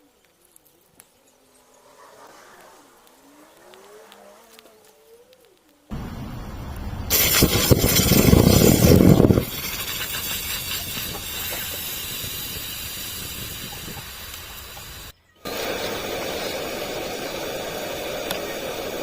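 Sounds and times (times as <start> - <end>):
batteries hissing in a fire: 0.0 - 5.9, 7.1 - 19.0.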